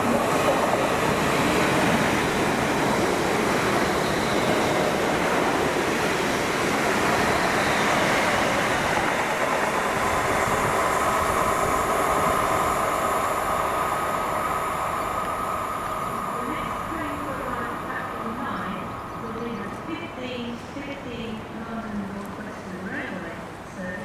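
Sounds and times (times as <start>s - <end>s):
wheels rushing on rail: 0.0s - 23.9s
train passing at speed: 0.0s - 24.0s.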